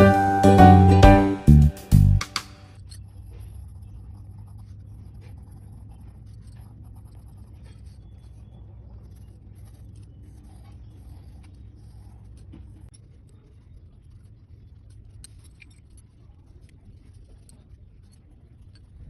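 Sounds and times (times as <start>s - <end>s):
drawing tool scratching paper: 3.0s - 18.3s.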